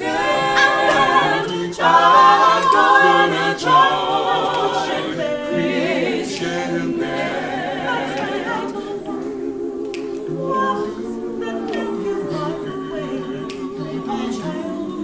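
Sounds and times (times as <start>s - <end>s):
a cappella group singing in harmony: 0.0s - 15.0s.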